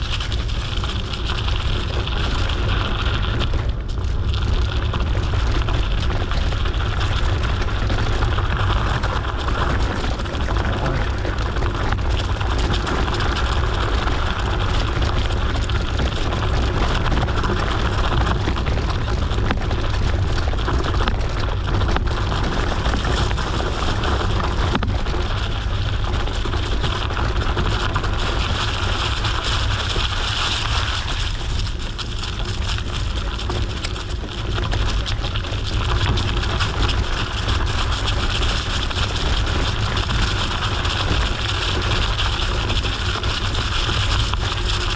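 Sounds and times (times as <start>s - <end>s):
bike tyres rolling on gravel: 0.0s - 44.9s.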